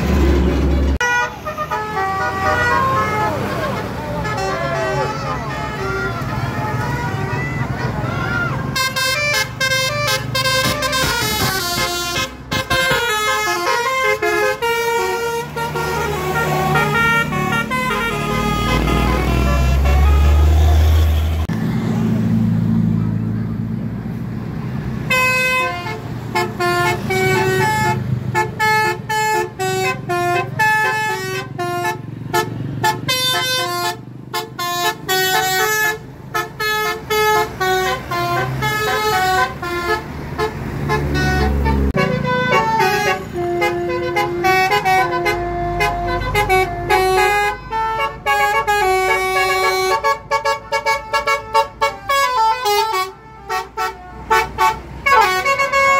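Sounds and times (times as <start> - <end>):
bus engine rumble: 0.0 - 55.9
multi-tone musical horn tune: 1.0 - 6.1, 8.8 - 20.5, 25.1 - 55.9.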